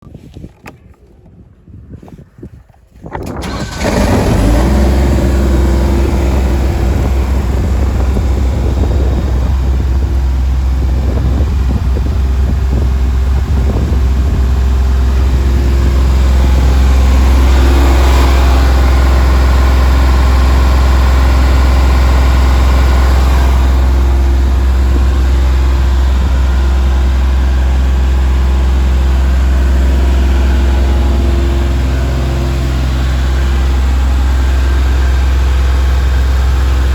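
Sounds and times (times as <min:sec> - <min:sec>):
diesel engine starting and running: 0:03.2 - 0:36.9.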